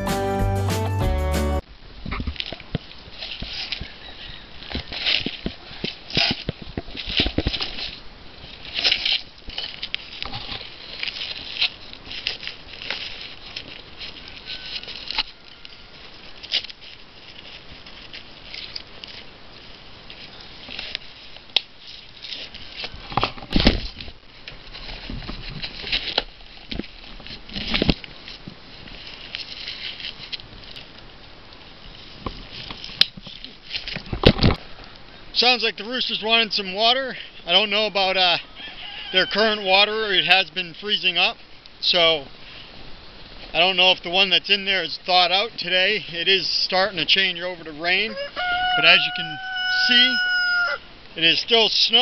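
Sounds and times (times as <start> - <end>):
faint steady patter: 1.6 - 52.0.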